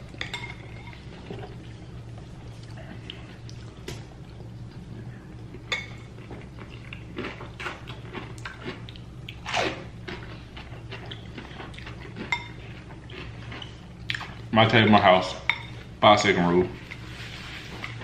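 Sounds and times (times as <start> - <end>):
people chewing crunchy salad: 0.0 - 14.5
steady low hum: 0.0 - 18.0.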